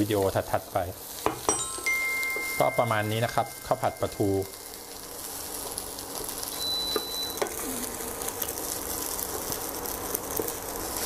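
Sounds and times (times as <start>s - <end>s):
rice sizzling in a wok: 0.0s - 11.0s.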